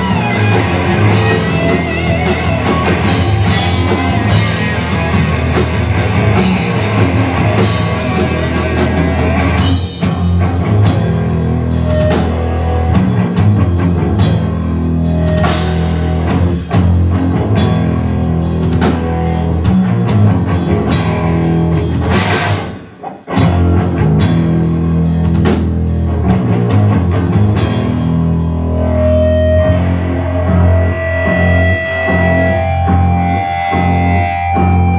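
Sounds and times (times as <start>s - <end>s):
drum kit beat: 0.0s - 28.4s
distorted electric guitars: 0.0s - 34.9s
electric bass: 0.0s - 34.9s.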